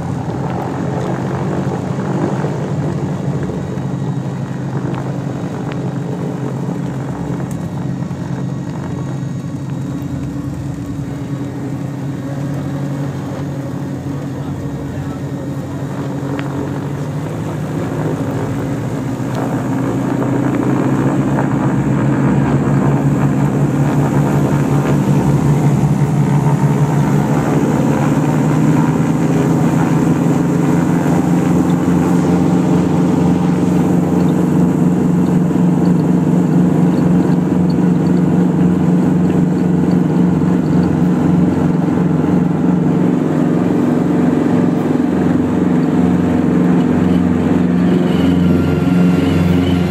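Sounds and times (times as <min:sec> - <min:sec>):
airplane piston engines running up: 0:00.0 - 0:49.9.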